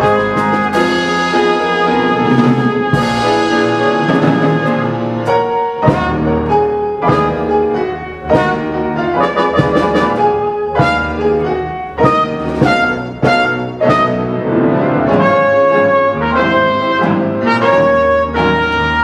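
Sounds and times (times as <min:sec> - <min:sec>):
brass and piano overture: 0:00.0 - 0:19.0.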